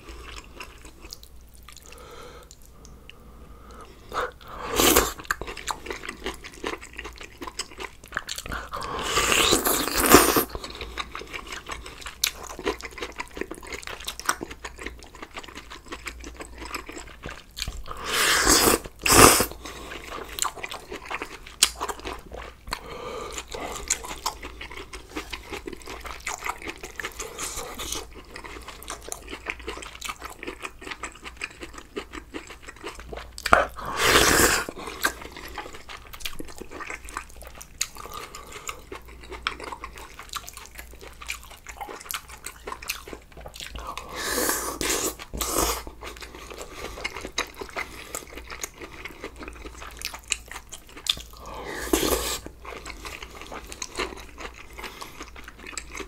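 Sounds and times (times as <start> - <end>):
wet chewing and crunching: 3.7 - 56.0.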